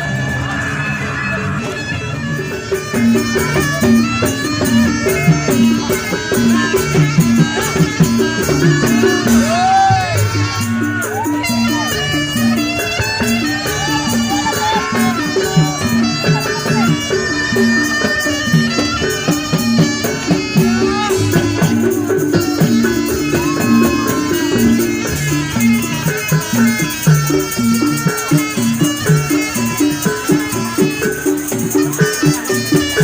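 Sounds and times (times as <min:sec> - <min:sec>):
gamelan percussion pattern: 0:00.0 - 0:33.0
reedy wind melody: 0:00.0 - 0:33.0.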